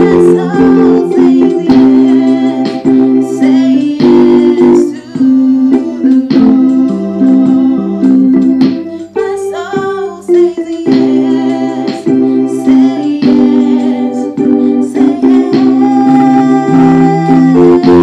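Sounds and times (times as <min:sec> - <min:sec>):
electronic keyboard chords: 0:00.0 - 0:18.0
woman singing: 0:00.0 - 0:18.0.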